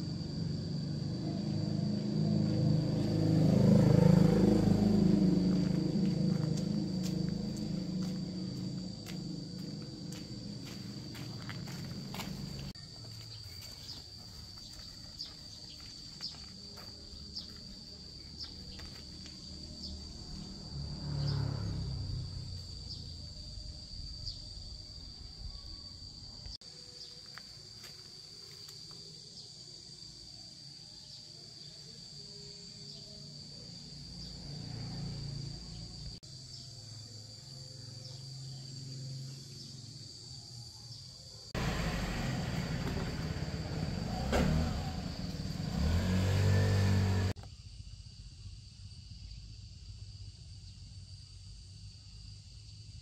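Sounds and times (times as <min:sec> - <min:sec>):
high-pitched insect drone: 0:00.0 - 0:46.5.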